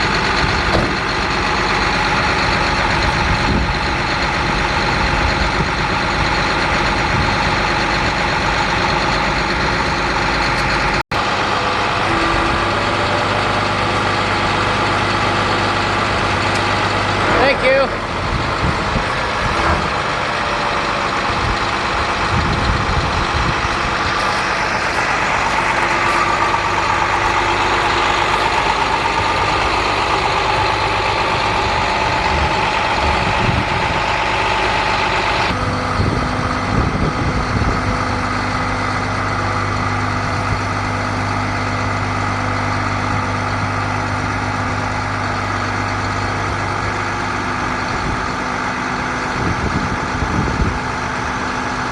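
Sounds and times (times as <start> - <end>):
truck diesel engine running: 0.0 - 51.9.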